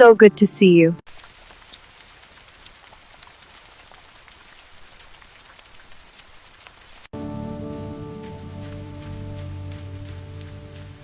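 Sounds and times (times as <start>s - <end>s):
light rain falling: 1.1s - 11.0s.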